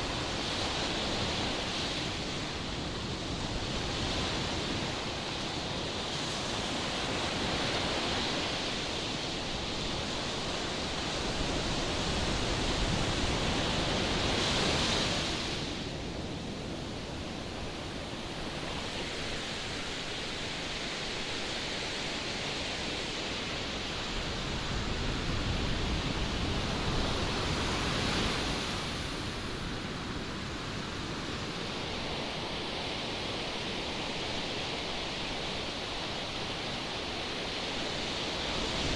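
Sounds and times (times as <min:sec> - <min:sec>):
sea surf: 0:00.0 - 0:38.9.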